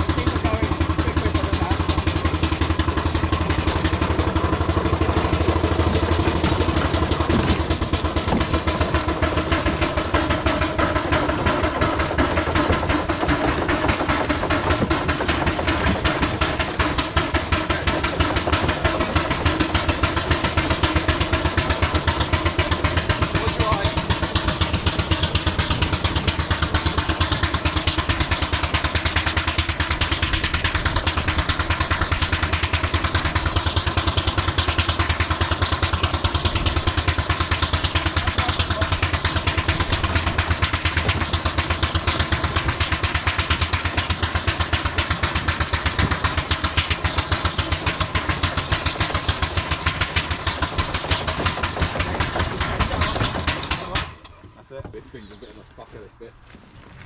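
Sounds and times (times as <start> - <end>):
steam engine chuffing: 0.0 - 56.4.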